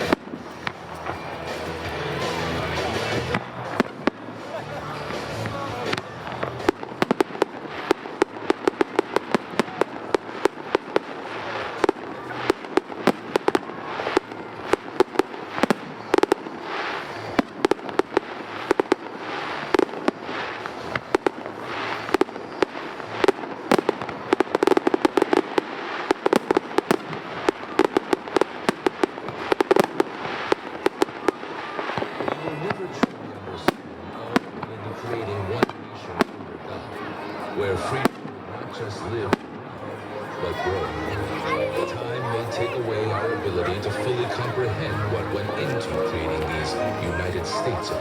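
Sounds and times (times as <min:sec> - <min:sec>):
fireworks bangs: 0:00.0 - 0:48.0
fireworks crackling: 0:00.0 - 0:48.0.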